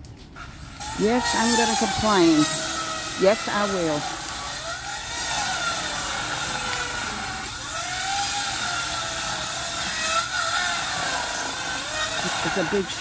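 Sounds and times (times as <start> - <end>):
motor running: 0.4 - 13.0.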